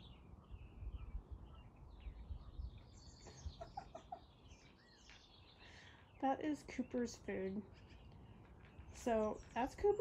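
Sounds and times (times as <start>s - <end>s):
birds chirping and twittering: 0.0s - 10.0s.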